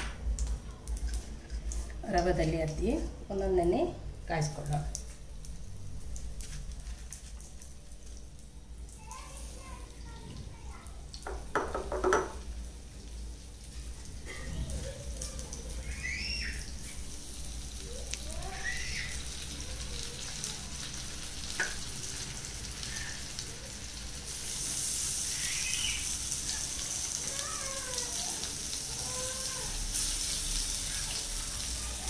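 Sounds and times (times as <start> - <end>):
fish frying in oil: 4.3 - 32.0.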